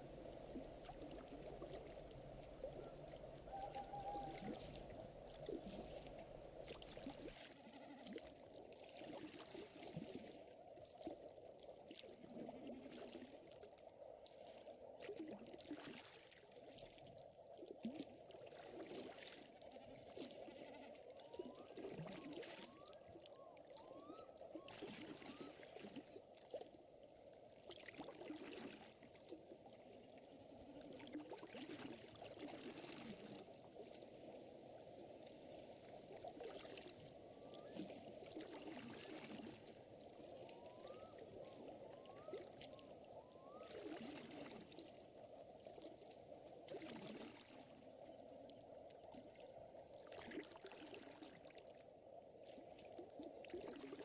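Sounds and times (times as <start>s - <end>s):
water lapping and trickling: 0.0s - 54.0s.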